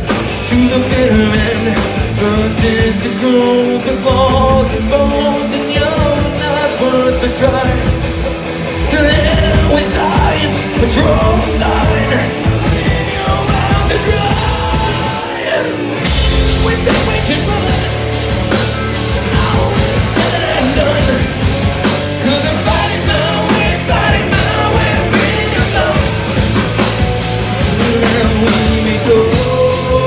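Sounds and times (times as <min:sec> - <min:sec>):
distorted electric guitars: 0:00.0 - 0:30.0
drum kit: 0:00.0 - 0:30.0
electric bass: 0:00.0 - 0:30.0.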